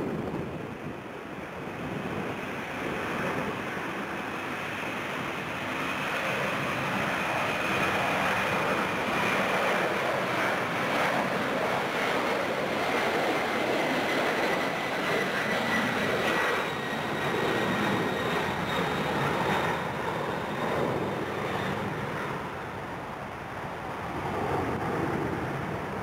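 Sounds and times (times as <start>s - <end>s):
jet engine roar: 0.0s - 26.0s
jet engine whine: 0.0s - 26.0s.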